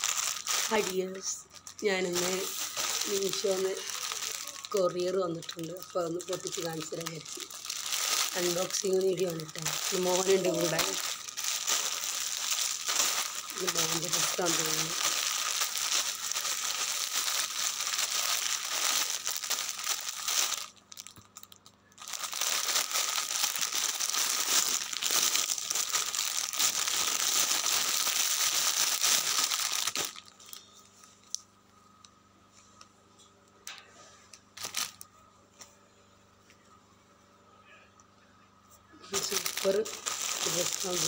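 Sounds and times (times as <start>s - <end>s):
plastic wrapping crinkling and tearing: 0.0s - 31.2s, 34.4s - 35.1s, 39.1s - 41.0s.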